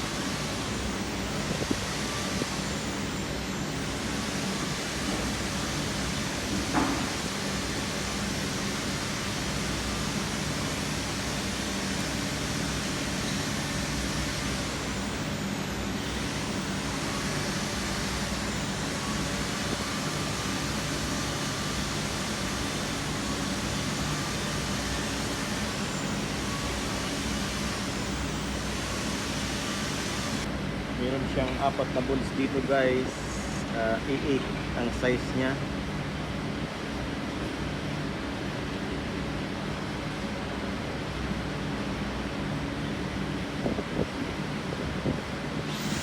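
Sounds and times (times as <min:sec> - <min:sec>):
steady low hum with hiss: 0:00.0 - 0:46.0.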